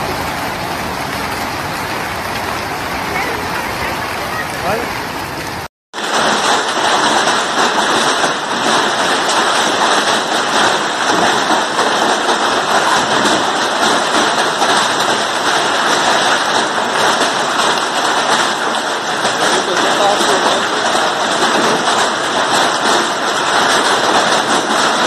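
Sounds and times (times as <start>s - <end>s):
hail and rain pelting ground: 0.0s - 25.0s.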